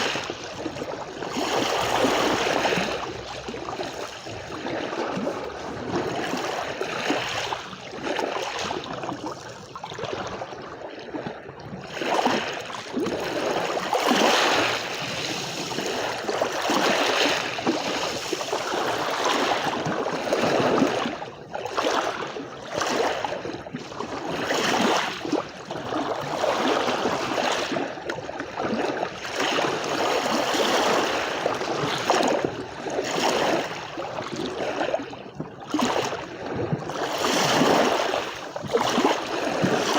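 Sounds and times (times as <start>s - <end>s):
small waves washing on beach: 0.0s - 39.9s.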